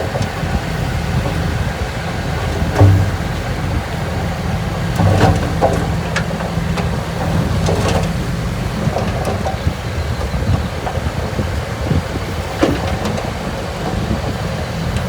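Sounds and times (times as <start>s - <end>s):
heavy diesel engine rumbling: 0.0s - 15.0s
metallic clanks and squeals: 0.1s - 15.0s.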